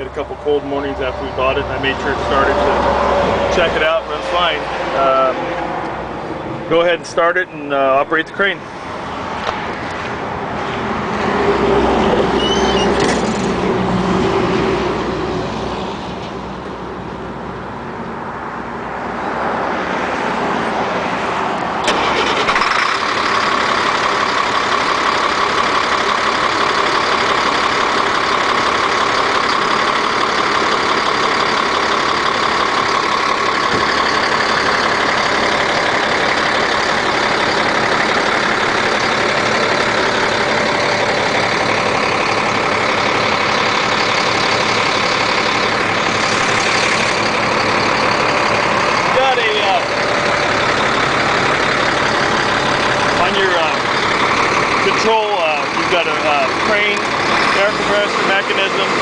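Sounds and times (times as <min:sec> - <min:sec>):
diesel engine starting and running: 0:00.0 - 0:59.0.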